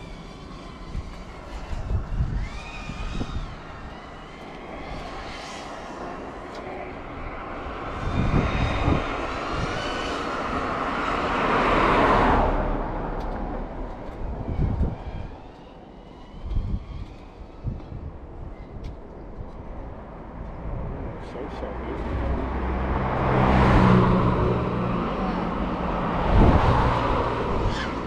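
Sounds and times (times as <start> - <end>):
quadcopter motors whining: 0.0 - 12.2, 12.9 - 19.9, 21.2 - 28.0
broad rushing swell: 0.0 - 18.4, 21.5 - 28.0.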